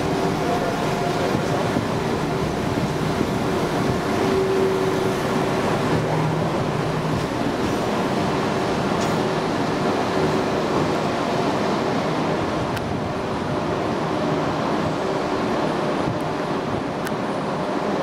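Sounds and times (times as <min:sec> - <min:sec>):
diesel train engines humming: 0:00.0 - 0:18.0
wheel and rail noise: 0:00.0 - 0:18.0.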